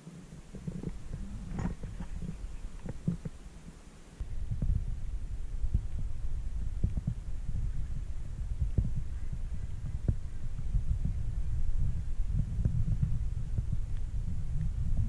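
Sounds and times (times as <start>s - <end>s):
faint clicks: 0.0s - 15.0s
wind buffeting microphone: 0.0s - 15.0s.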